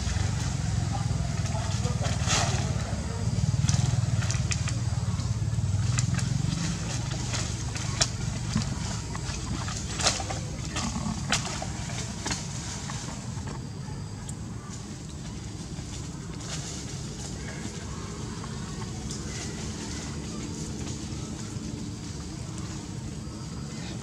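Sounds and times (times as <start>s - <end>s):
dry thatch crackling and clicking: 0.0s - 24.0s
steady low rumble: 0.0s - 24.0s.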